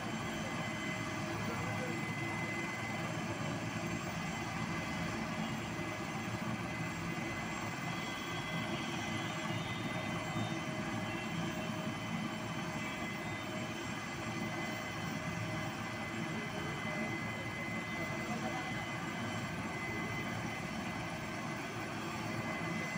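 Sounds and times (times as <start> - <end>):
helicopter turbine idling: 0.0 - 22.9.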